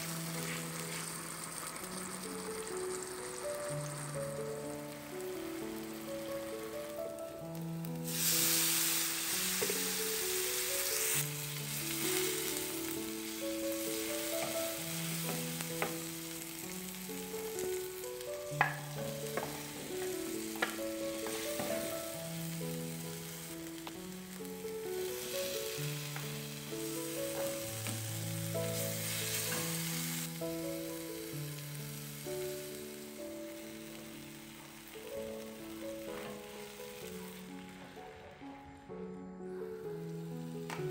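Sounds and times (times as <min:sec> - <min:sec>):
vegetables sizzling in a frying pan: 0:00.0 - 0:38.4, 0:39.6 - 0:40.9.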